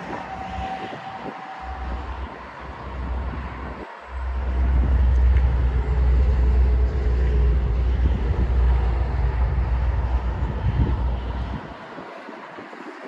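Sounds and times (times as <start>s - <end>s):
highway traffic: 0.0s - 13.0s
wind buffeting microphone: 0.0s - 13.0s.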